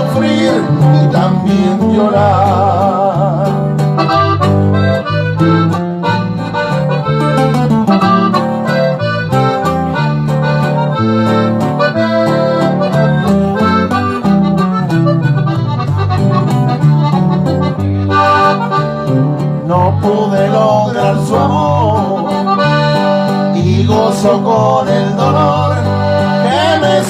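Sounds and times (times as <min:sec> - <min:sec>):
accordion playing: 0:00.0 - 0:27.0.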